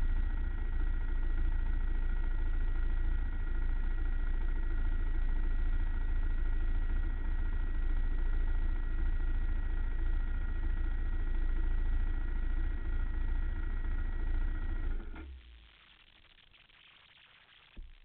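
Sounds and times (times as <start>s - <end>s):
quad engine running at low revs: 0.0s - 15.6s.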